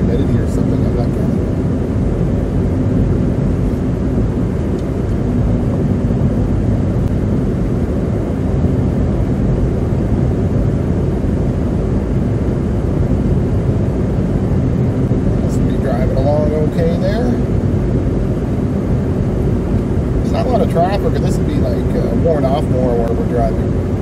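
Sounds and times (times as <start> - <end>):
car engine cruising: 0.0 - 24.0.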